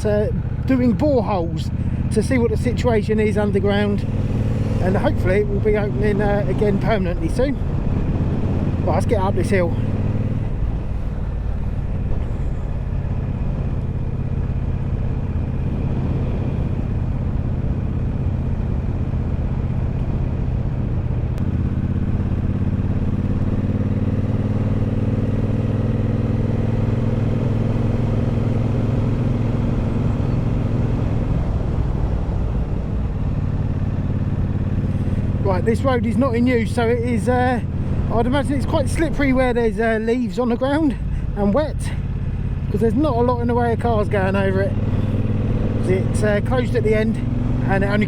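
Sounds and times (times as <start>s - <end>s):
motorcycle engine pulling uphill: 0.0s - 48.0s
road noise: 0.0s - 48.0s
wind: 0.0s - 48.0s.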